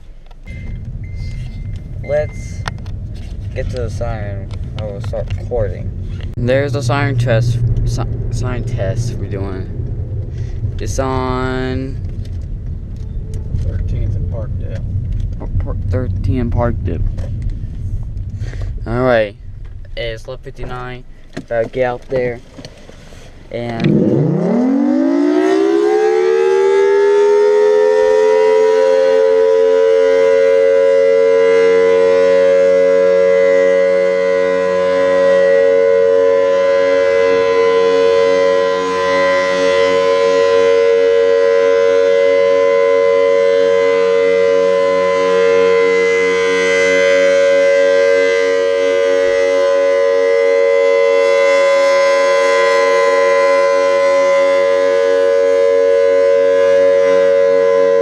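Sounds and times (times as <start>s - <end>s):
tornado warning siren: 0.2s - 19.6s, 23.7s - 58.0s.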